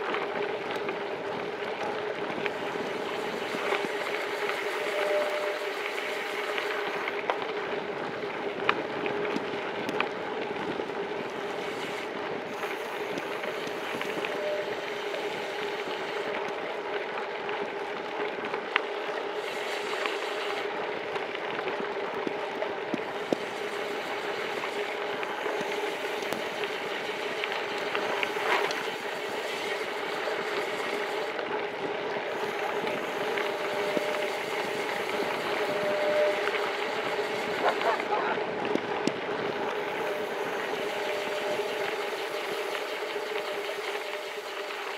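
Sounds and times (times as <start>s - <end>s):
bike clicks and ticks: 0.0s - 44.9s
bike tyres rolling on dirt: 0.0s - 44.9s.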